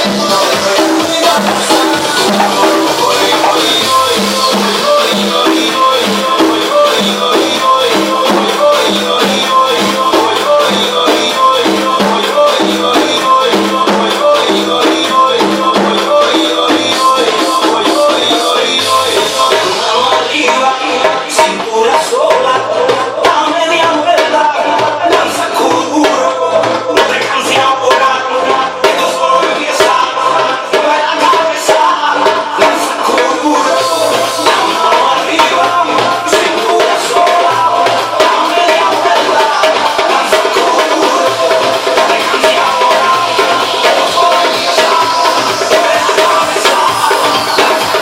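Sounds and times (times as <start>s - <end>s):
dance music with steady beat: 0.0s - 48.0s
live percussion playing: 0.0s - 48.0s.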